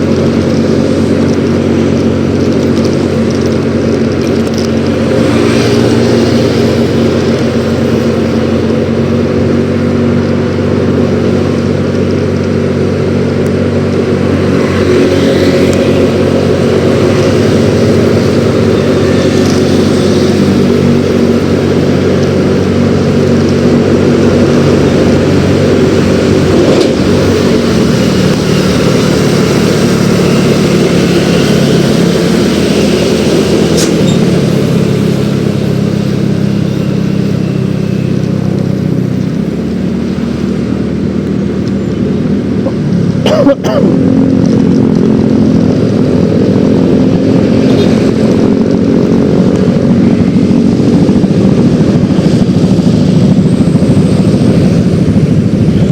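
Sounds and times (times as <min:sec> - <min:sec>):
scooter engine running: 0:00.0 - 0:55.9
wind and road noise: 0:00.0 - 0:55.9.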